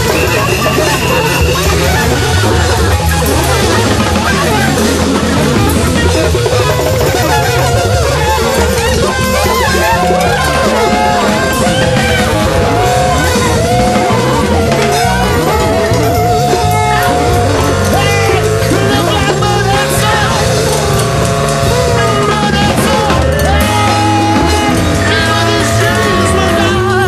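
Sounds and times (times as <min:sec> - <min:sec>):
guitar lead bending in pitch: 0:00.0 - 0:27.0
instrumental band music: 0:00.0 - 0:27.0.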